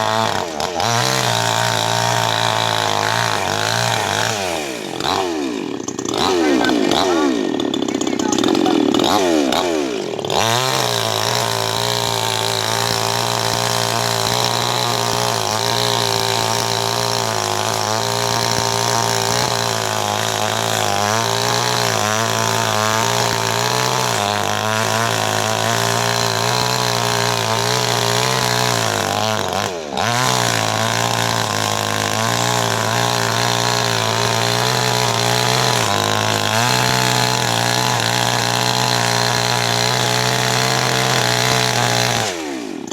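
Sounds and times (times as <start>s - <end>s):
chainsaw engine running: 0.0s - 42.9s.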